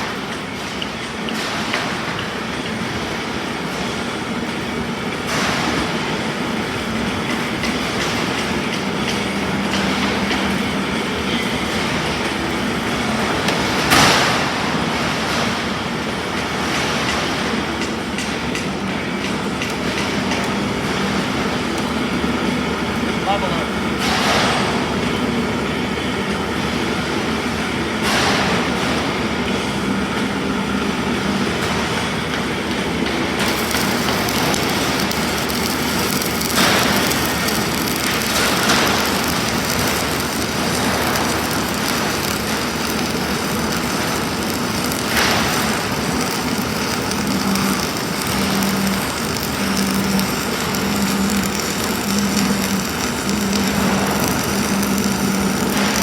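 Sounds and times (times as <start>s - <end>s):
welding arc crackling: 0.0s - 15.2s, 16.4s - 25.0s, 30.3s - 56.0s.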